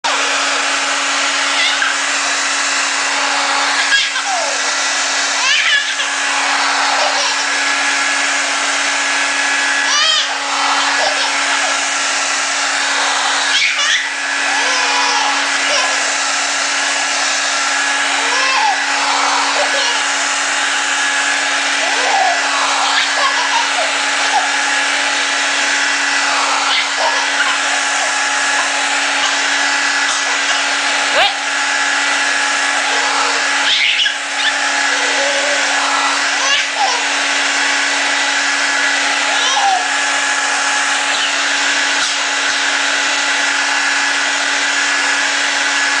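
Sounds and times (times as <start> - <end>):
hair dryer running: 0.0 - 46.0.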